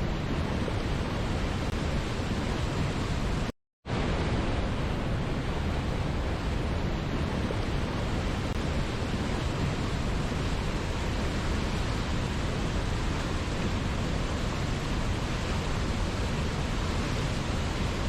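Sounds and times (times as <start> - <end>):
waterfall rushing: 0.4 - 18.0.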